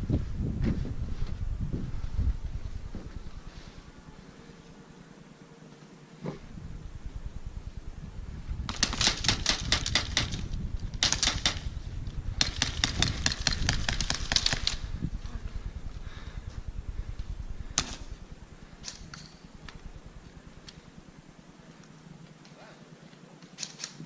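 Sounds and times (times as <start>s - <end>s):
low rumble of movement: 0.0s - 5.2s, 6.1s - 22.5s.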